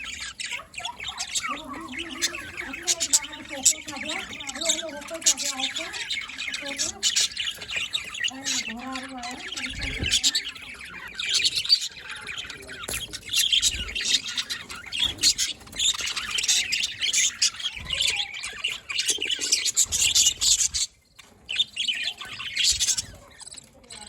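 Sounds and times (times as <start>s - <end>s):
budgerigars chattering and chirping: 0.0s - 24.0s.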